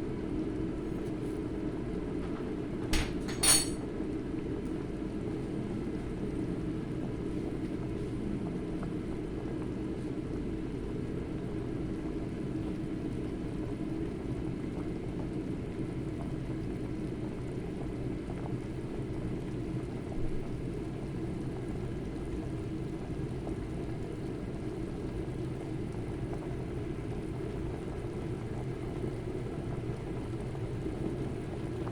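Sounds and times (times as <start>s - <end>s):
pot boiling and bubbling: 0.0s - 31.9s.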